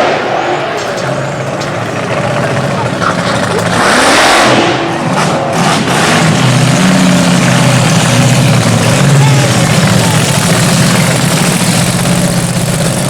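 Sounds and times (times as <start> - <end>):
drag car engine revving: 0.0 - 13.0.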